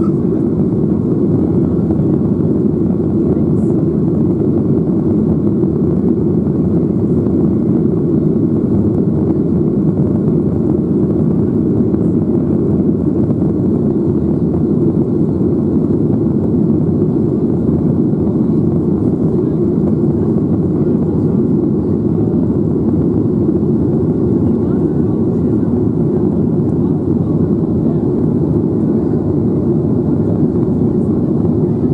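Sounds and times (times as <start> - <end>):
airplane engine and airflow roar: 0.0 - 31.9.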